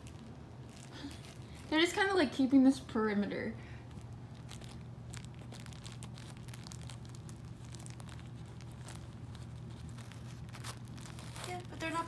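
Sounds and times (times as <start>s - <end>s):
light crinkling: 0.0s - 2.8s, 3.6s - 12.0s
steady low hum: 0.0s - 12.0s.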